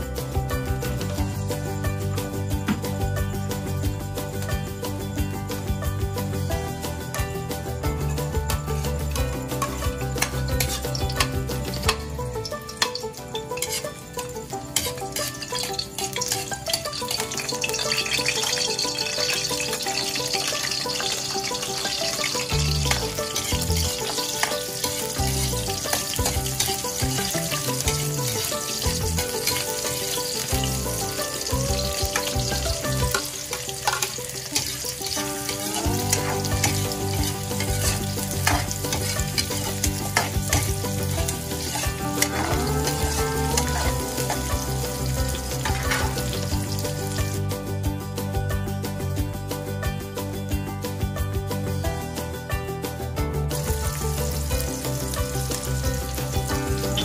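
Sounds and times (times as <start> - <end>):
food sizzling in a wok: 0.0 - 48.3, 53.0 - 57.0
background music: 0.0 - 57.0.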